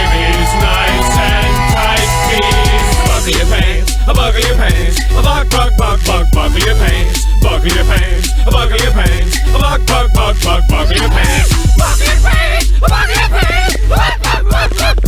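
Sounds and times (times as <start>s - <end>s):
hip-hop dance track: 0.0s - 15.0s.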